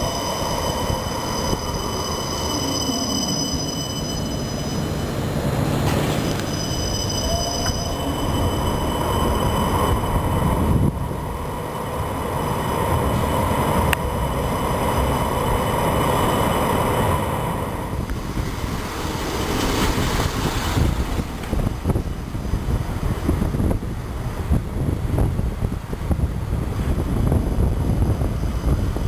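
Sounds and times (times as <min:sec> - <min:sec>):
tram rolling on track: 0:00.0 - 0:29.0
wind on microphone: 0:04.2 - 0:29.0.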